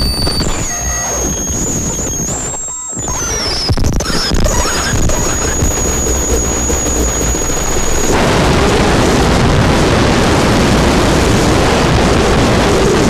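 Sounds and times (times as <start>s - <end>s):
distorted noise wall: 0.0s - 13.0s
high steady whine: 0.0s - 13.0s.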